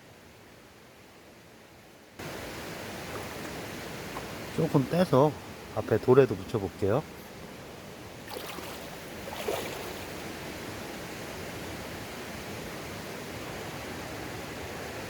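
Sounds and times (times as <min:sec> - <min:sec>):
stream water running: 0:02.1 - 0:15.0.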